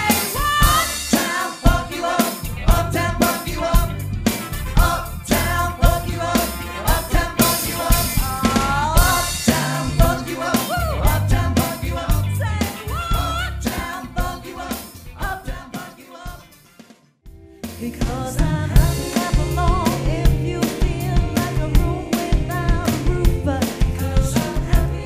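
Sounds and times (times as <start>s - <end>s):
person singing: 0.0s - 3.8s, 4.8s - 16.4s, 17.7s - 25.0s
band playing pop song: 0.0s - 16.9s, 17.6s - 25.0s
drum kit beat: 0.0s - 17.0s, 17.6s - 25.0s.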